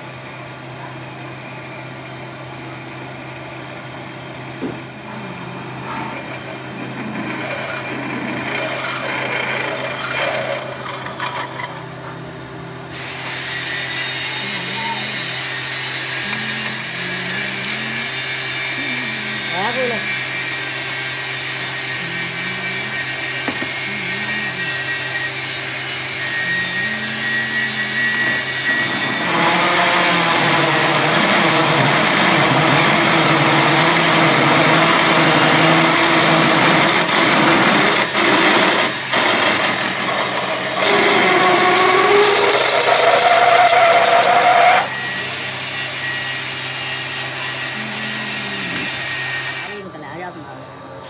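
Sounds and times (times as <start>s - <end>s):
metal lathe humming: 4.6s - 11.9s, 12.7s - 49.9s
drill cutting metal harshly: 5.0s - 11.7s, 12.9s - 49.8s.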